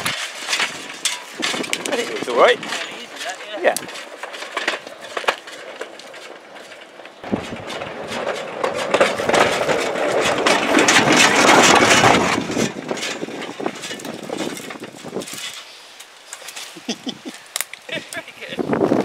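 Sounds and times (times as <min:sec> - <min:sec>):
metal wheels clattering on rail track: 0:00.0 - 0:15.7.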